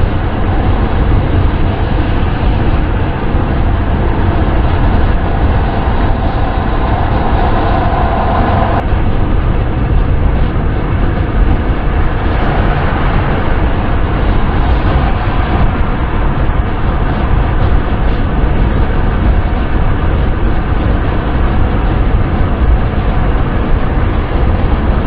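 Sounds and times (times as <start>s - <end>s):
car wind and road rumble: 0.0s - 25.0s
mid-pitched hum: 0.0s - 25.0s.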